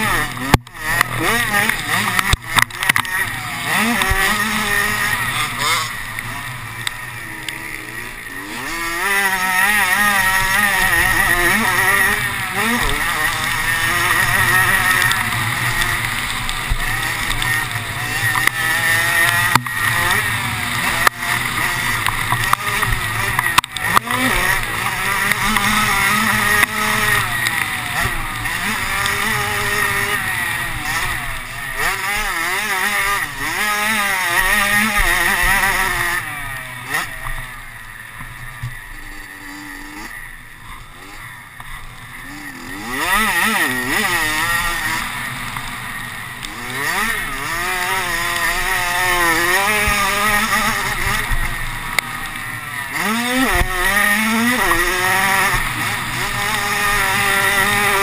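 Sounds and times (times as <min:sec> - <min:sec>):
racing engine revving: 0:00.0 - 0:58.0.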